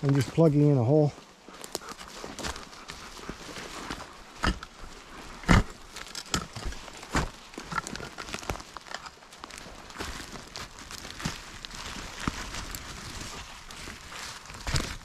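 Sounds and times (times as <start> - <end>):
rustling of leaf litter: 0.0 - 15.0.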